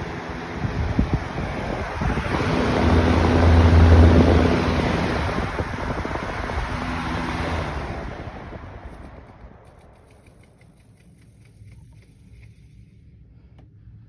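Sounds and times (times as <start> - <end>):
wind buffeting microphone: 0.0 - 11.5
box fan air rush: 0.0 - 14.0
low motor hum: 0.0 - 14.0.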